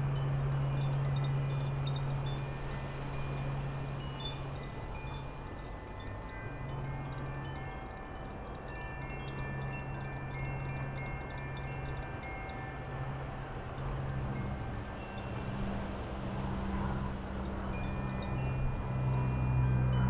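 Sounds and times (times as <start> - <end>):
wind chimes ringing: 0.0 - 20.0.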